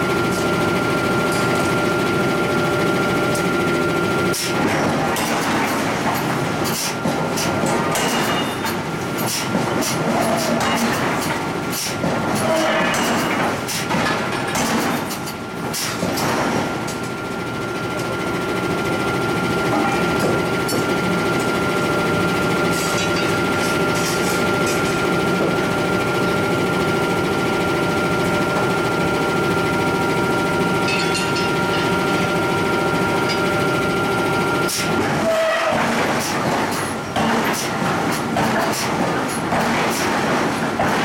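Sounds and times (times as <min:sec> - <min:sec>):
heavy forge machinery drone: 0:00.0 - 0:41.0.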